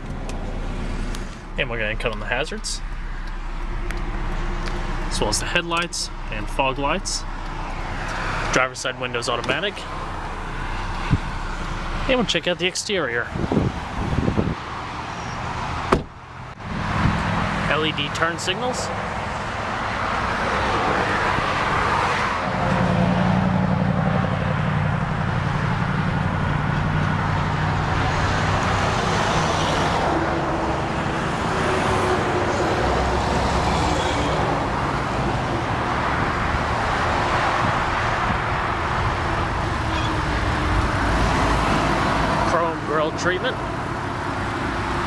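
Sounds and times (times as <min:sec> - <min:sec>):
heavy vehicle engine hum: 0:00.0 - 0:45.0
highway traffic passing: 0:00.0 - 0:45.0.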